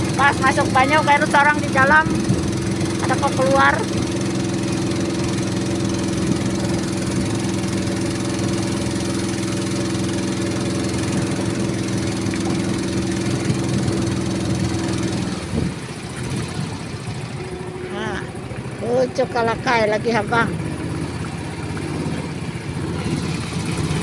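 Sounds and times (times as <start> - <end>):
motorboat engine: 0.0 - 24.0
water hissing along hull: 0.0 - 24.0.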